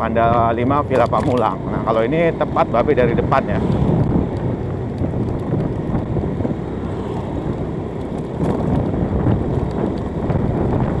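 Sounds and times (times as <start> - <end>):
motorcycle engine: 0.0 - 11.0
wind buffeting microphone: 1.5 - 11.0.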